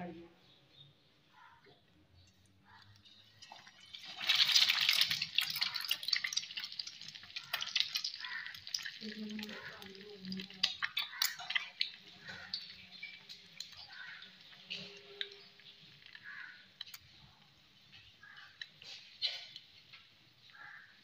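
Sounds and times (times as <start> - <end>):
bread frying in hot oil: 2.2 - 21.0.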